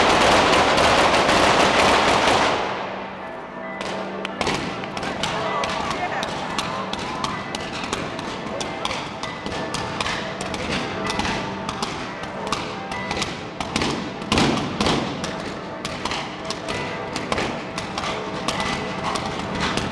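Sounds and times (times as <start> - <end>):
fireworks bangs and crackles: 0.0 - 3.0, 3.8 - 19.9.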